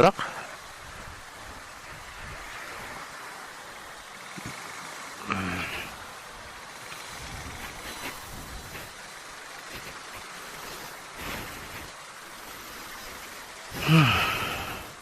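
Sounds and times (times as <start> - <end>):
motorcycle road and wind noise: 0.6 - 14.9.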